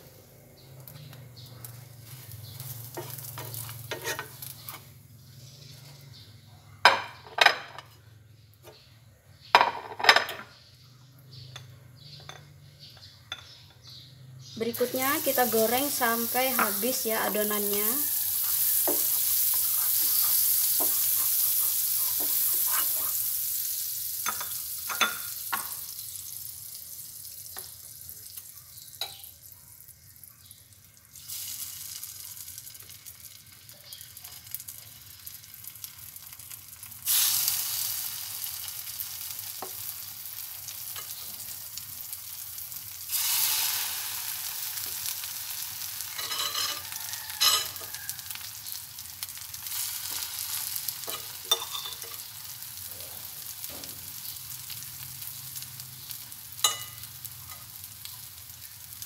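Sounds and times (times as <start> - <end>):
bread sizzling in butter: 0.0 - 6.2, 14.6 - 59.0.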